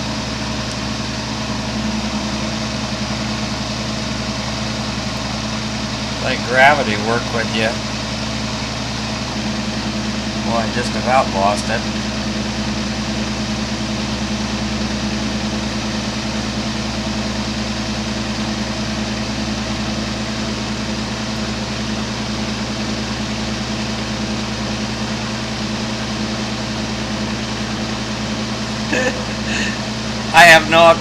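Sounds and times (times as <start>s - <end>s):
mechanical hum: 0.0s - 31.0s.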